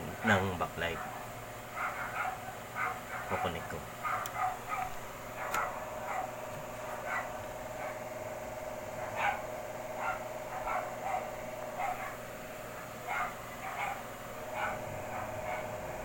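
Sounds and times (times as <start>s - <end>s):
steady hum: 0.0s - 16.0s
dog barking: 0.8s - 8.1s, 9.0s - 16.0s.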